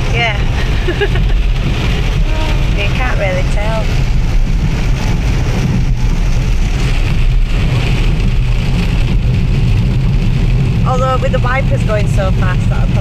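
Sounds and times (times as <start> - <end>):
engine and road rumble: 0.0 - 13.0
rain and tyre spray hiss: 0.0 - 13.0.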